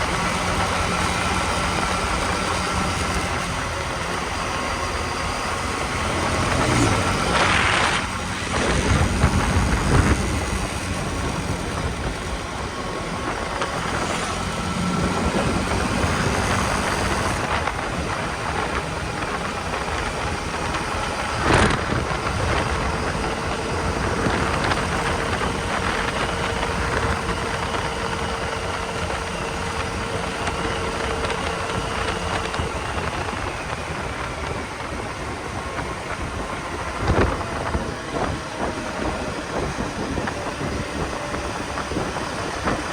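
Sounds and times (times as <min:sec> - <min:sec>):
motorcycle engine running: 0:00.0 - 0:42.9
wind rush on microphone: 0:00.0 - 0:42.9.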